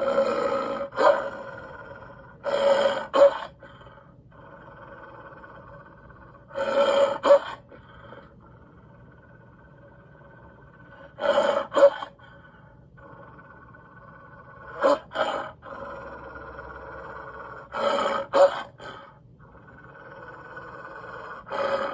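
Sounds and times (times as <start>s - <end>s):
cartoon wolf growling snarls: 0.0s - 12.4s, 13.0s - 21.9s
faint soundtrack hum: 0.0s - 21.9s.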